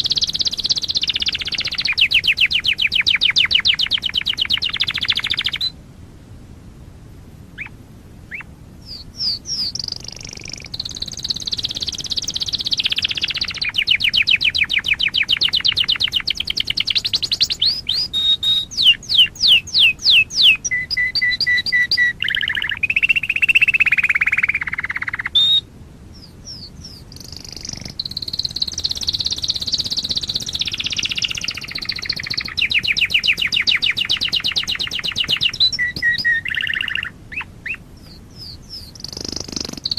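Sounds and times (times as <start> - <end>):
canary singing trills: 0.0 - 5.8, 7.5 - 39.9.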